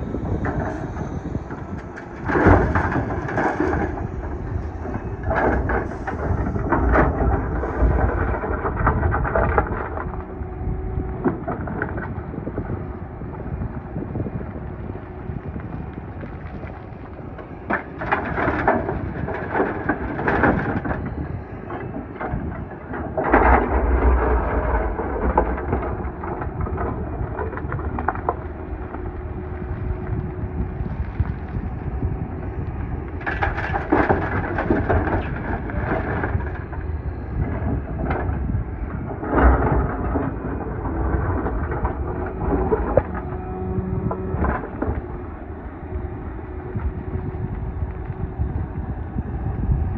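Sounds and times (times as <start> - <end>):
excavator diesel engine rumbling: 0.0 - 49.9
gravel clattering: 0.0 - 49.9.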